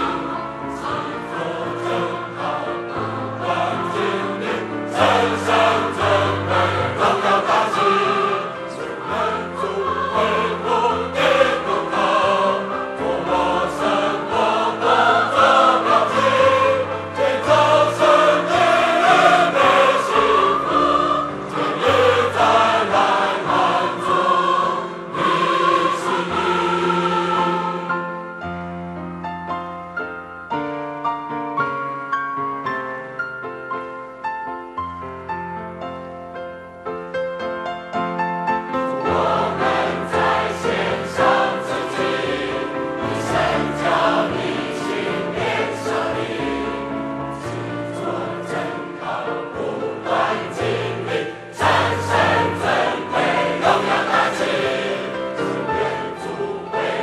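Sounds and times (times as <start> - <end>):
choir singing a hymn: 0.0 - 29.1, 38.6 - 57.0
piano playing: 0.0 - 57.0.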